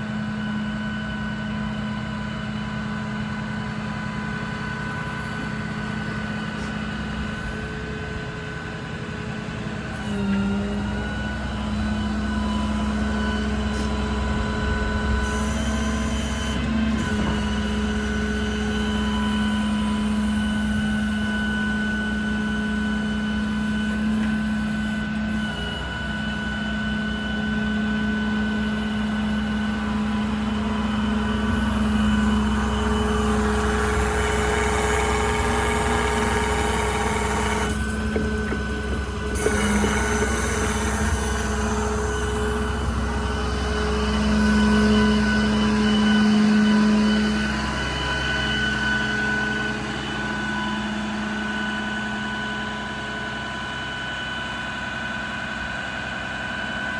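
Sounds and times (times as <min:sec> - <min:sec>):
diesel engine drone: 0:00.0 - 0:56.9
hydraulic whine: 0:00.0 - 0:56.9.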